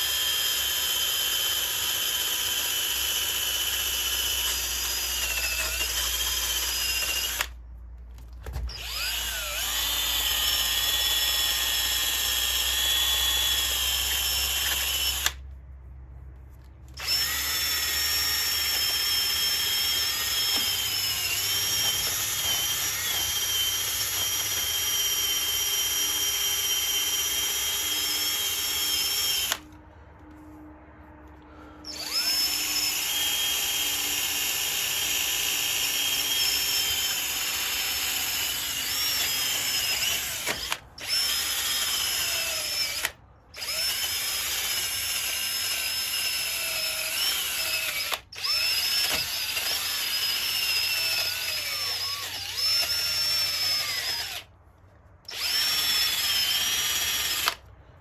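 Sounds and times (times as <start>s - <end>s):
power sander whining: 0.0s - 7.6s, 8.7s - 15.4s, 17.0s - 29.8s, 31.8s - 54.4s, 55.3s - 57.6s.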